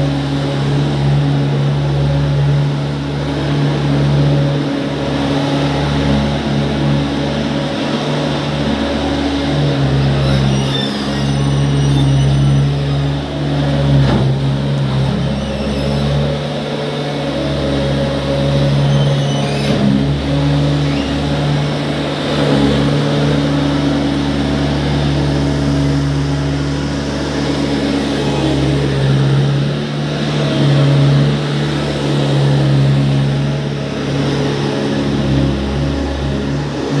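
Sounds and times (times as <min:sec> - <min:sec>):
loader engine running: 0:00.0 - 0:37.0.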